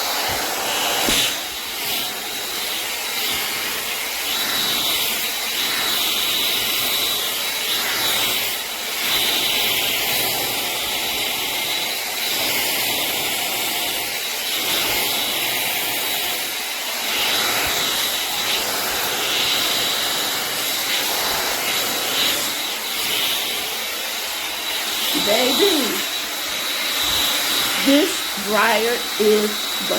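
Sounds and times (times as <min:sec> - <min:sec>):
hot air brush fan blowing: 0:00.0 - 0:29.9.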